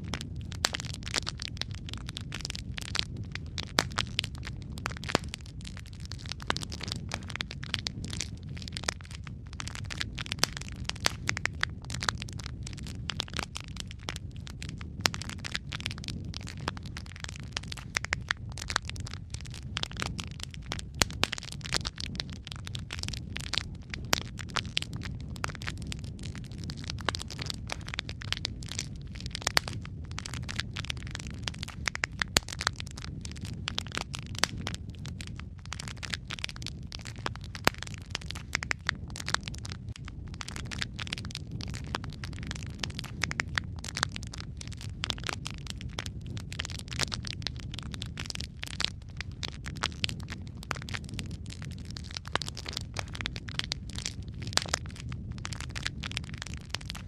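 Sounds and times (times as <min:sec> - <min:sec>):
sharp pops of fire: 0:00.0 - 0:57.0
wood fire crackling: 0:00.0 - 0:57.0.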